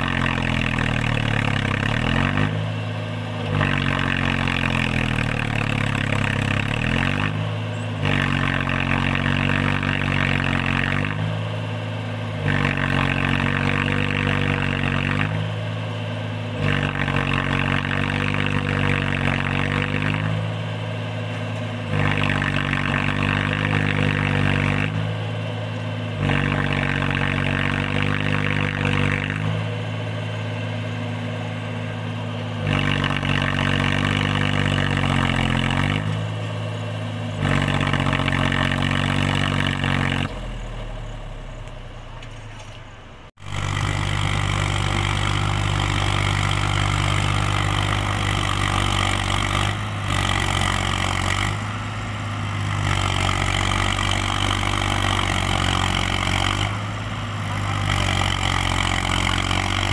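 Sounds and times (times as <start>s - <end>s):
tractor diesel engine straining: 0.0s - 59.9s.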